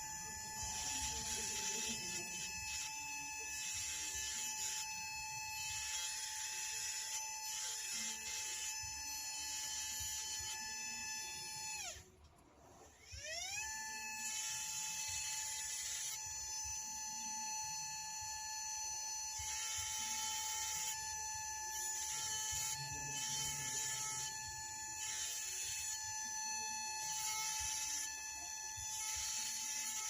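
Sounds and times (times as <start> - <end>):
rotary carving tool whining: 0.0 - 30.0.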